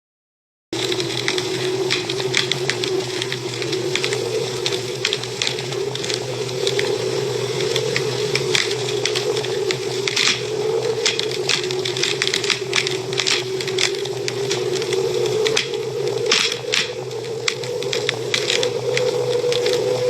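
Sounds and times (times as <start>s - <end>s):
low hum: 0.8s - 20.0s
wood fire crackling: 0.8s - 20.0s.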